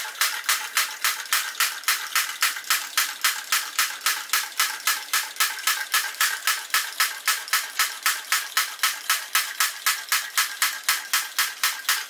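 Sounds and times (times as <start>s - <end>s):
toy drop hammer clacking: 0.0s - 12.0s.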